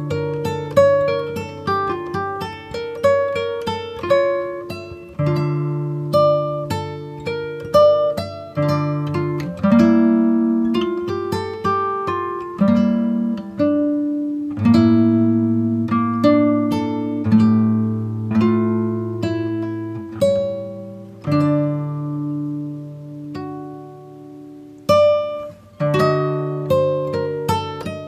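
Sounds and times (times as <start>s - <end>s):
acoustic guitar melody: 0.0s - 28.0s.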